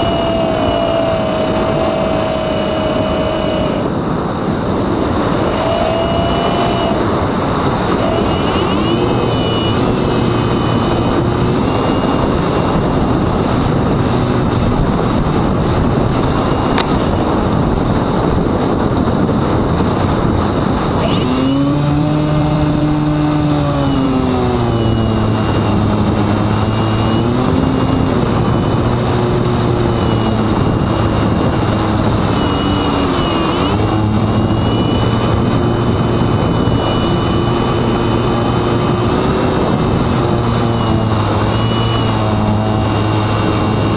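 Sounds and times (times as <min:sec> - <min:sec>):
electric motor driving propeller: 0:00.0 - 0:43.9.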